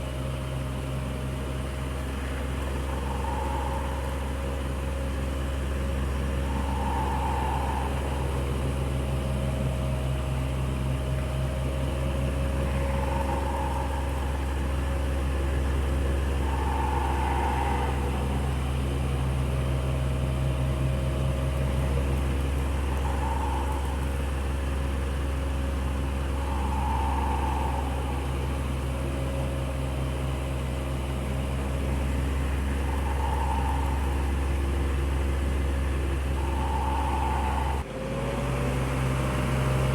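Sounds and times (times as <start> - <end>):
electric fan running: 0.0 - 37.9.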